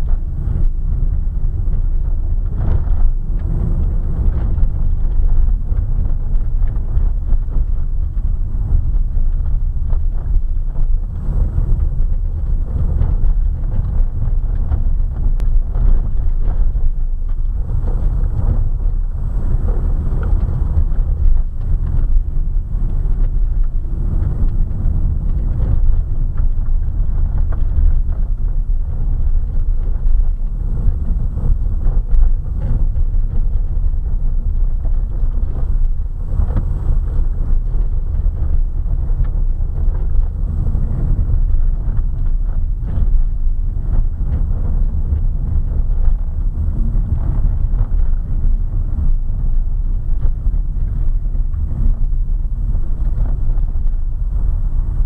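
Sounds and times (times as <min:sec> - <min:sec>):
car tyres rumbling on gravel: 0:00.0 - 0:55.0.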